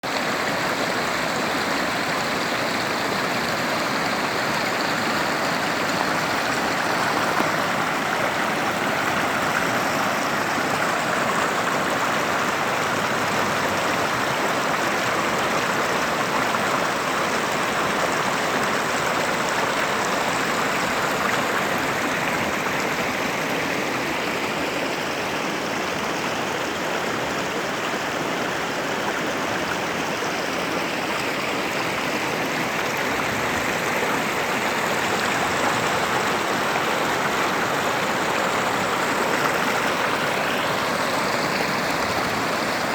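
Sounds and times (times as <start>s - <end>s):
creek rushing: 0.0s - 42.9s.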